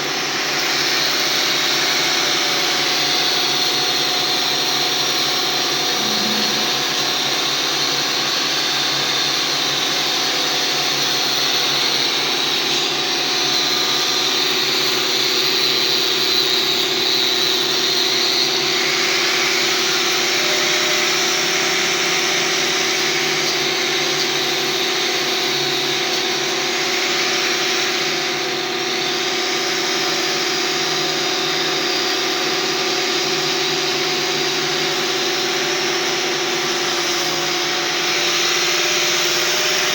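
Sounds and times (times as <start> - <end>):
electric power tool motor humming: 0.0 - 39.9.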